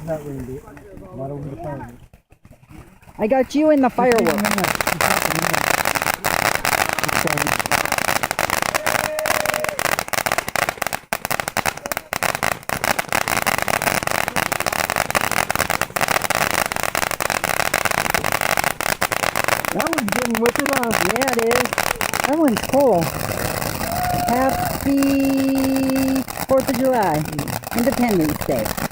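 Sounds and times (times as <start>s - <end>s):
firework hissing and popping: 0.0s - 1.0s, 3.1s - 28.9s.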